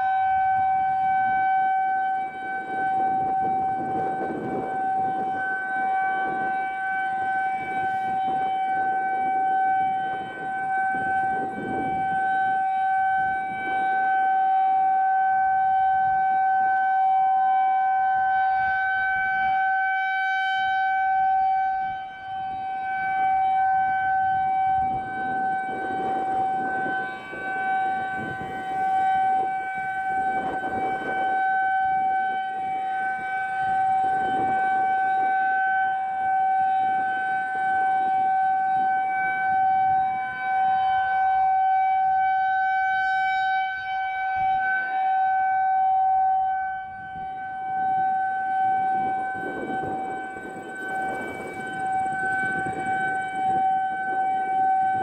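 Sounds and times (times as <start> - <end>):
rotating siren steady tone: 0.0 - 55.0.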